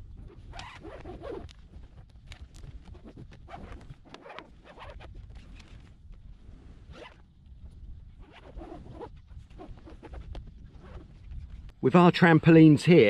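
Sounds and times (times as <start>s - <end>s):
rope rubbing through eyelets: 0.0s - 11.8s.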